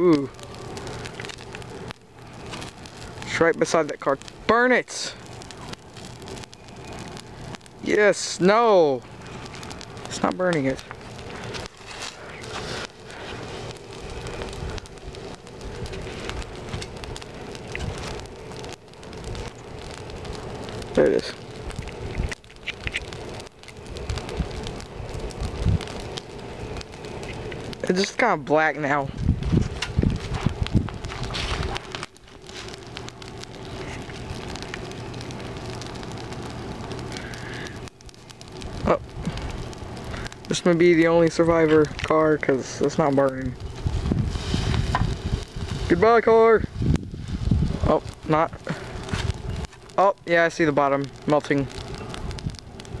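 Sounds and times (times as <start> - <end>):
open fire crackling: 0.0 - 53.0
low rumble: 9.0 - 53.0.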